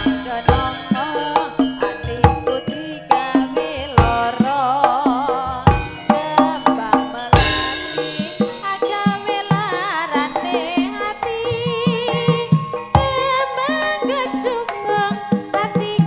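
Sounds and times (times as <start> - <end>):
hand drum strokes: 0.0 - 13.4
metallophones ringing a melody: 0.0 - 16.0
wavering melodic line: 0.0 - 16.0.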